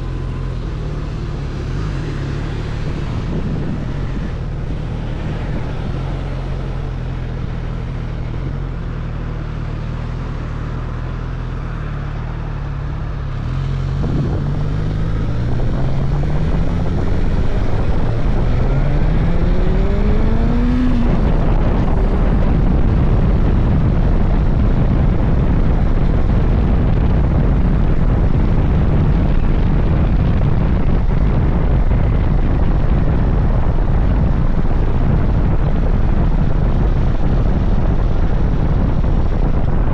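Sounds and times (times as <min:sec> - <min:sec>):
wind rush: 0:00.0 - 0:08.9, 0:12.6 - 0:39.9
motorcycle engine revving: 0:00.0 - 0:39.9.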